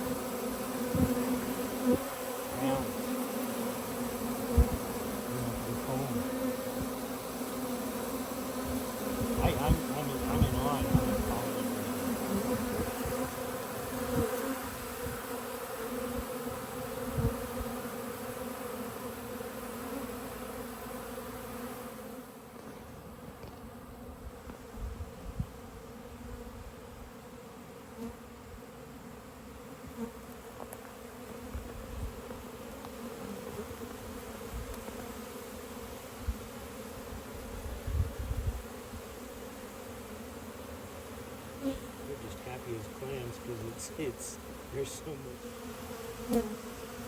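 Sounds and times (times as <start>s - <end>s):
honey bees buzzing: 0.0s - 47.0s.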